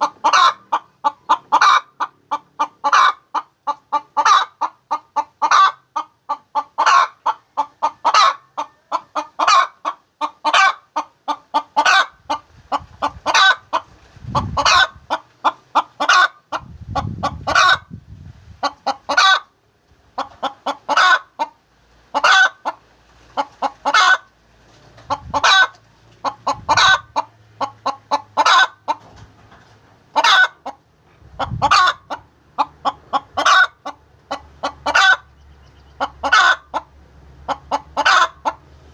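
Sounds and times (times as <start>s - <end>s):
hen cackling: 0.0s - 18.0s, 18.6s - 22.8s, 23.4s - 24.4s, 25.0s - 29.1s, 30.1s - 38.8s.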